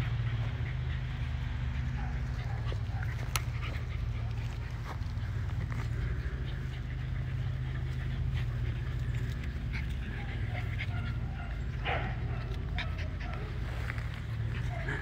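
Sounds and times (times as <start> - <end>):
puppies making high cries: 0.0 - 15.0
steady low rumble: 0.0 - 15.0.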